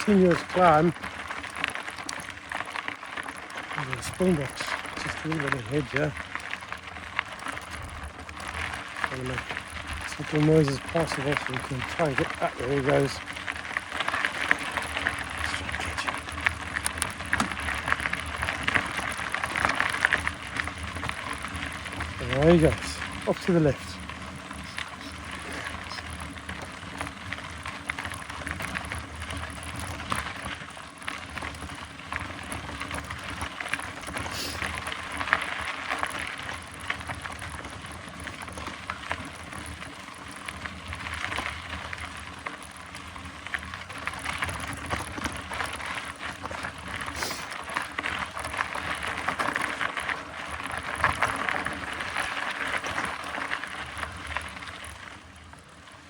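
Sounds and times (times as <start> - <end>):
bike tyre and drivetrain noise: 0.0 - 56.0
small clicks and rattles: 0.0 - 56.0.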